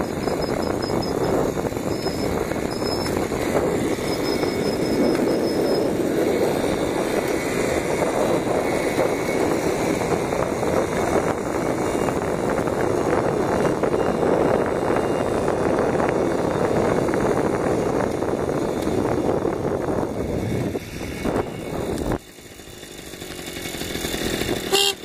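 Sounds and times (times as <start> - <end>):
wind on microphone: 0.0 - 22.2
moped engine running: 0.0 - 25.0.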